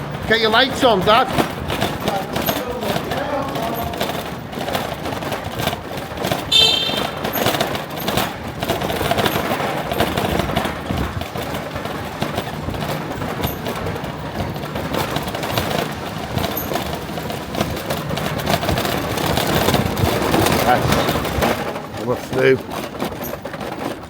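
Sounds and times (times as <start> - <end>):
scooter rattling on bumpy surface: 0.0 - 24.0.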